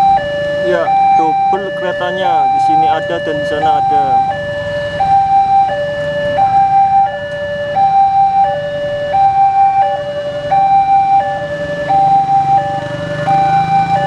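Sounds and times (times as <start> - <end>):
idling motorbike and car engines: 0.0 - 14.0
level crossing two-tone alarm: 0.0 - 14.0.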